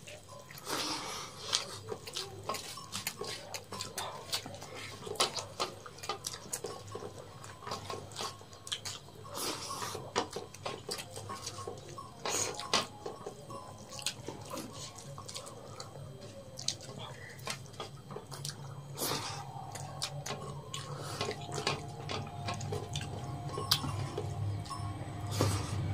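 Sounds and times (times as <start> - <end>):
chewing and lip-smacking: 0.0 - 25.9
fingers working rice on plates: 0.0 - 25.9.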